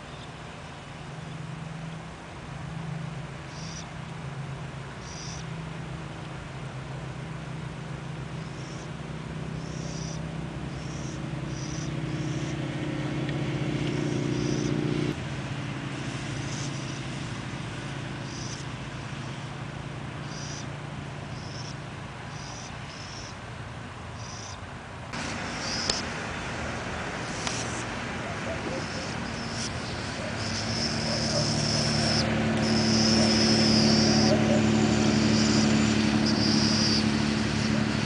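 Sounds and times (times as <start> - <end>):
low motor hum: 0.0 - 38.0.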